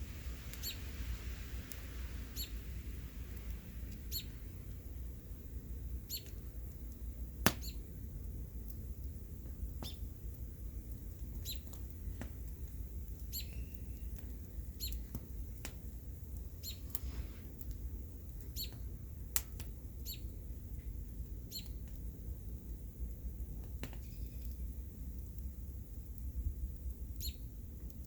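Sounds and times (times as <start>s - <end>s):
bonfire crackling and popping: 0.0s - 28.0s.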